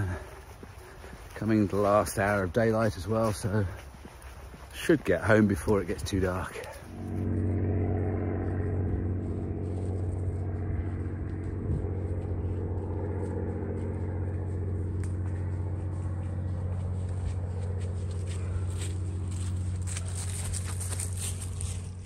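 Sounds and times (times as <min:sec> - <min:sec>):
footsteps on leafy grass path: 0:00.0 - 0:22.0
steady low drone: 0:00.0 - 0:22.0.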